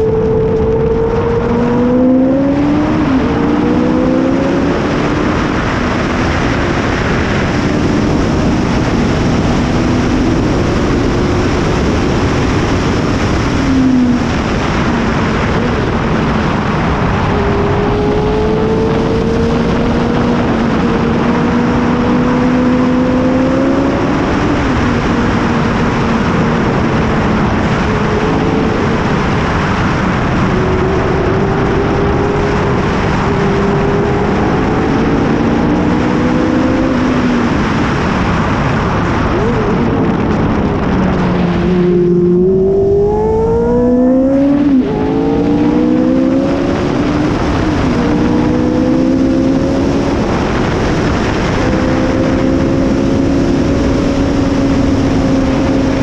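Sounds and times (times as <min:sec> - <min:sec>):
racing car engine revving: 0:00.0 - 0:56.0
wind and road noise: 0:00.0 - 0:56.0.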